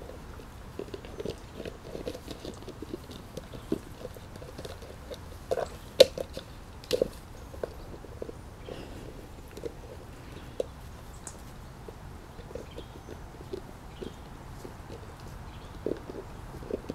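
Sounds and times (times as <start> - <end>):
puppies grunting: 0.0 - 16.9.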